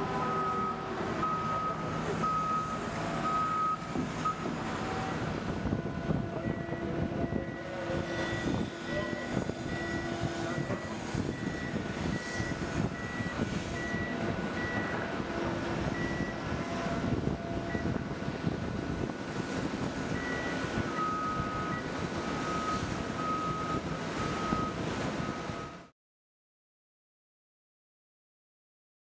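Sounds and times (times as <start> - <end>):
heavy machinery rumbling: 0.0 - 25.8.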